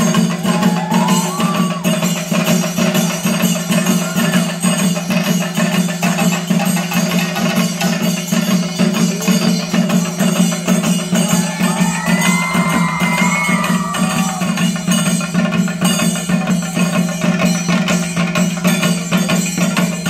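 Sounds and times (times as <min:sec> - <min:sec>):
chenda drums playing fast rhythm: 0:00.0 - 0:20.0
cymbals: 0:00.0 - 0:20.0.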